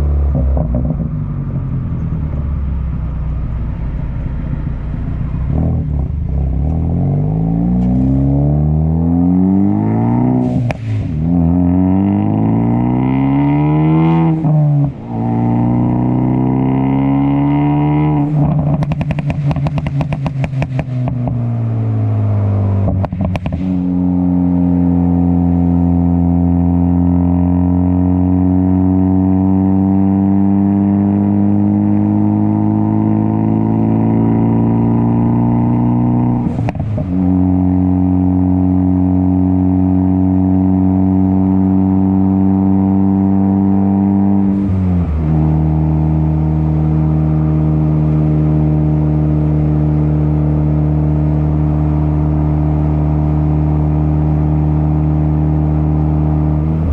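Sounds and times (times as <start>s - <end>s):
car engine droning: 0.0s - 56.9s.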